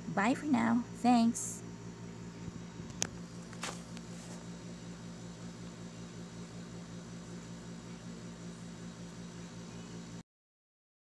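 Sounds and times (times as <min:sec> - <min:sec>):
low background hum: 0:00.0 - 0:10.2.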